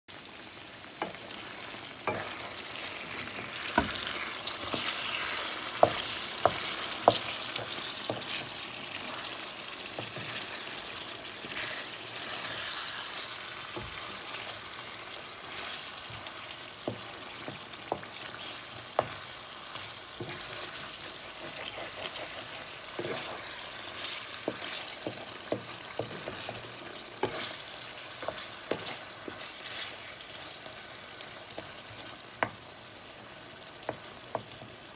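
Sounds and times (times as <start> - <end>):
chicken sizzling in frying pan: 0.1 - 34.9
spatula knocking and scraping pan: 1.0 - 9.2, 9.8 - 14.8, 15.4 - 30.0, 33.8 - 34.7.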